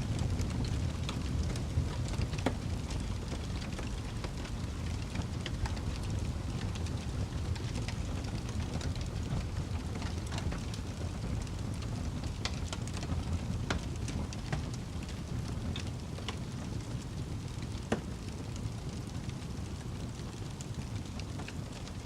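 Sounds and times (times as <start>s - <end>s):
fire crackling and popping: 0.0s - 22.0s
low steady rumble: 0.0s - 22.0s.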